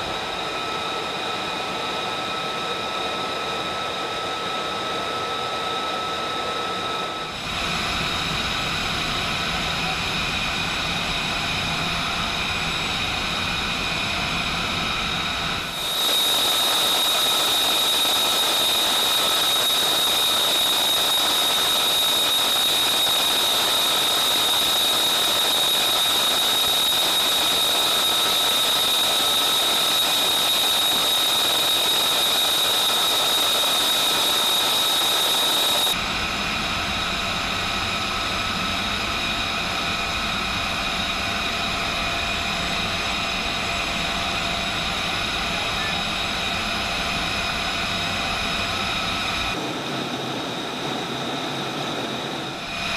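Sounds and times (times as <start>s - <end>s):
jet turbine whine: 0.0s - 52.9s.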